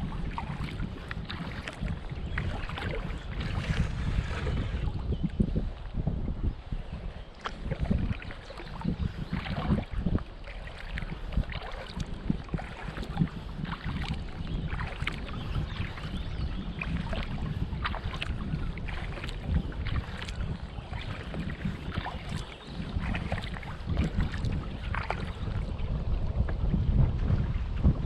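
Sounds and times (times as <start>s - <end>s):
paddle splashing in water: 0.0s - 6.0s, 7.3s - 27.5s
wind buffeting microphone: 0.0s - 28.0s.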